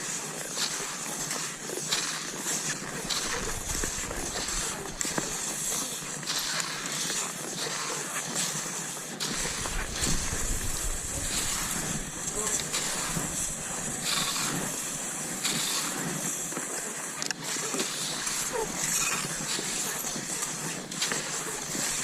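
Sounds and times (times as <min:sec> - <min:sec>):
skis scraping over snow: 0:00.0 - 0:22.0
ski pole plants crunching: 0:01.0 - 0:07.0, 0:09.2 - 0:22.0.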